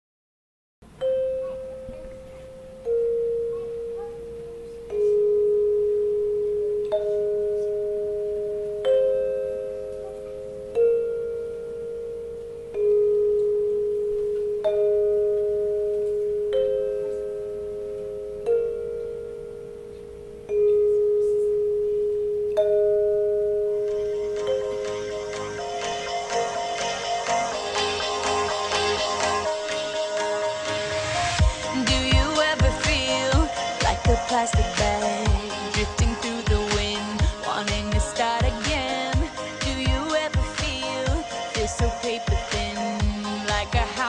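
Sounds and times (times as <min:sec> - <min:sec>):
bell-like mallet melody: 0:01.0 - 0:44.0.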